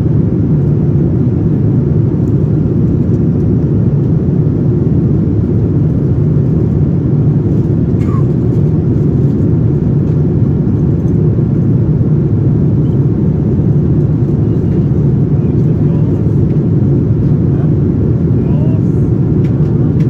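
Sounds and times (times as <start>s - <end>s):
airliner cabin roar: 0.0s - 20.0s.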